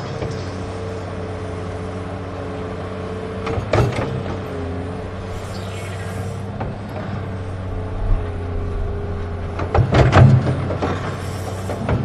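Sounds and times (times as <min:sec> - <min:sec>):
electric motors humming: 0:00.0 - 0:12.0.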